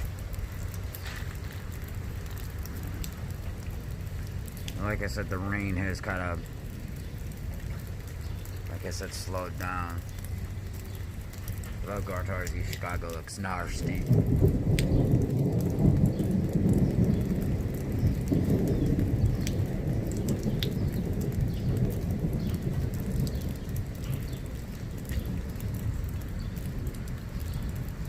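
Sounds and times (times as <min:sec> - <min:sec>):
steady rain: 0:00.0 - 0:28.0
thunder rumbling: 0:00.0 - 0:28.0
water dripping: 0:00.0 - 0:28.0.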